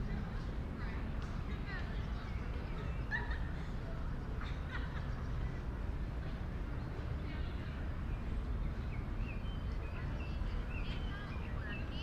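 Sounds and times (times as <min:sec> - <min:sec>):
distant city traffic rumble: 0:00.0 - 0:12.0
faint distant voices: 0:00.0 - 0:12.0.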